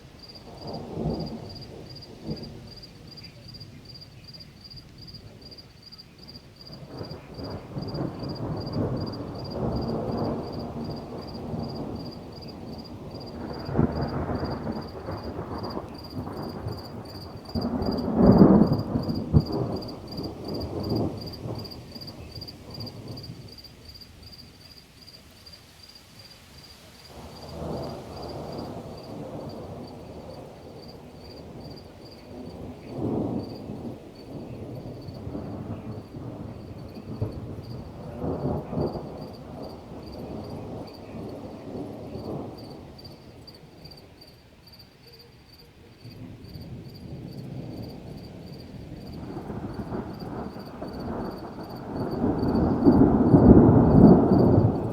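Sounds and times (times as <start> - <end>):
thunder rumbling: 0.0 - 24.4, 27.1 - 44.4, 46.0 - 54.9
insects chirping: 0.0 - 54.9.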